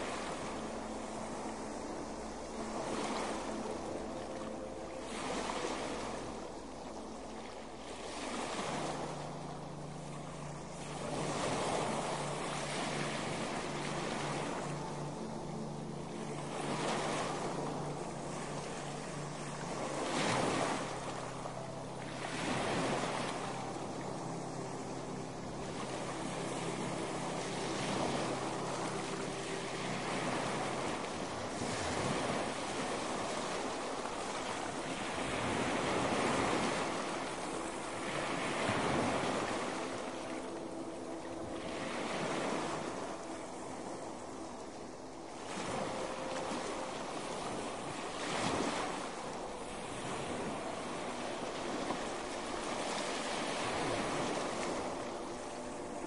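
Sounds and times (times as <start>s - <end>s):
sea surf washing onto shore: 0.0s - 56.0s.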